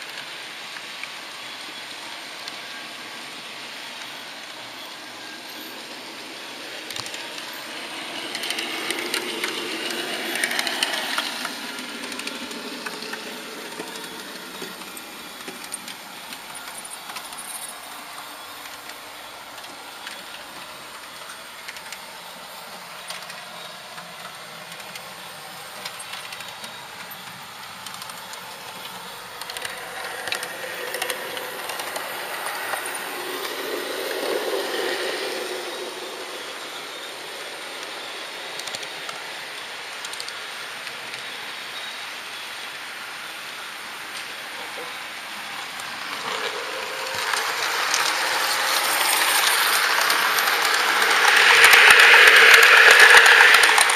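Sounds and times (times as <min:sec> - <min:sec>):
model train rattling on track: 0:00.0 - 0:53.9
wheels clicking over rails: 0:04.0 - 0:41.4, 0:44.0 - 0:53.9.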